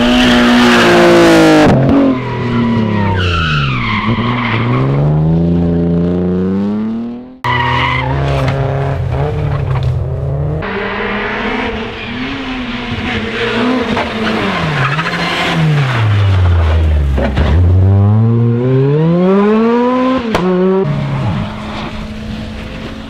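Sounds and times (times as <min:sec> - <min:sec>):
rally car engine at high revs: 0:00.0 - 0:03.1, 0:03.9 - 0:23.0.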